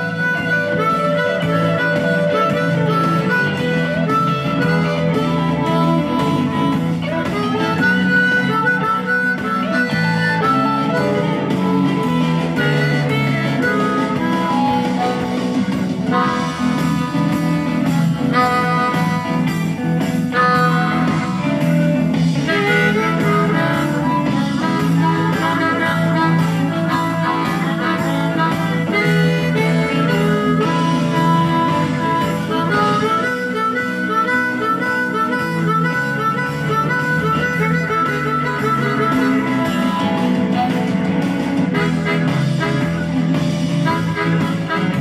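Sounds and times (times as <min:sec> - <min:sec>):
backing track guitar: 0:00.0 - 0:45.0
harmonica blues solo: 0:00.0 - 0:45.0.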